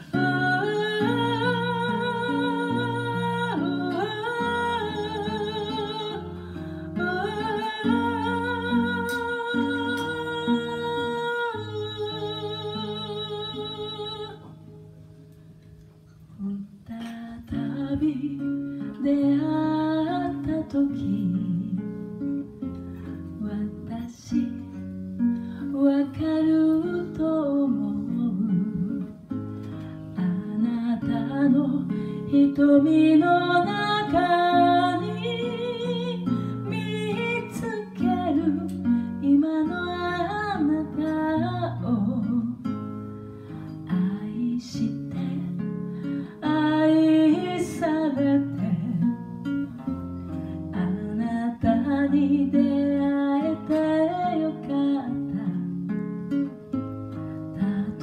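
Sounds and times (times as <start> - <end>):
woman singing slow song: 0.0 - 14.7, 16.3 - 56.5, 57.3 - 58.0
classical guitar chords: 0.0 - 58.0.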